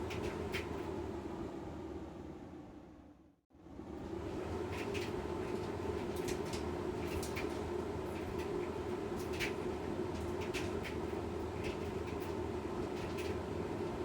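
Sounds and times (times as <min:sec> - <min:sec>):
washing machine running: 0:00.0 - 0:03.0, 0:03.6 - 0:14.0.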